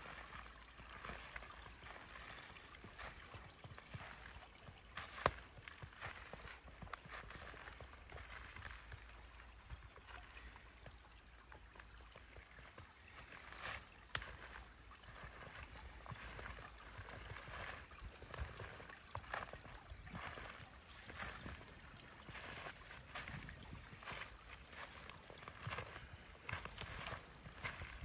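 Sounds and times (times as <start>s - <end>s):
stream trickling over stones: 0.0s - 28.0s.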